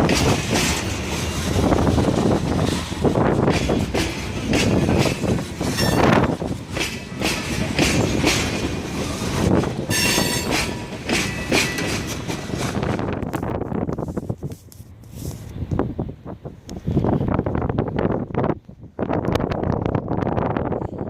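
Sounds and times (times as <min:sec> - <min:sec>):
train cars rumbling and clacking: 0:00.0 - 0:21.0.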